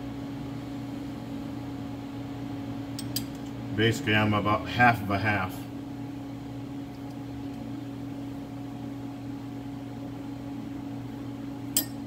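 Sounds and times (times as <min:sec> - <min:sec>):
machine hum with steady tone: 0:00.0 - 0:12.0.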